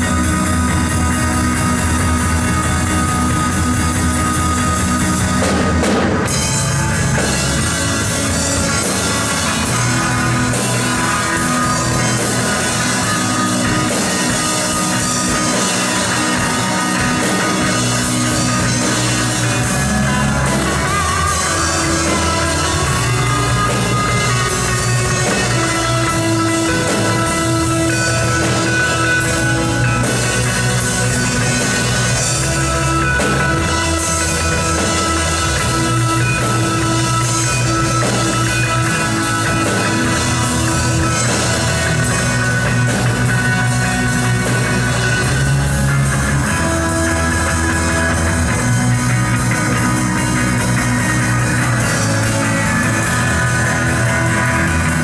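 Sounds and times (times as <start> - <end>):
rock band playing instrumental: 0.0 - 55.0.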